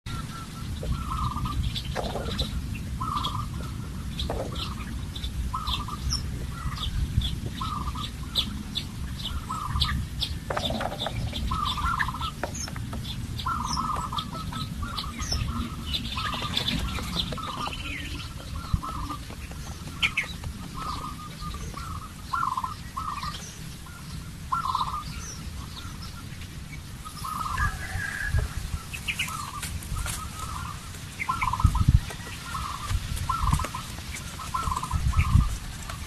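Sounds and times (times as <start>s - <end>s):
bird calling: 0.1s - 36.0s
steady low rumble: 0.1s - 36.0s.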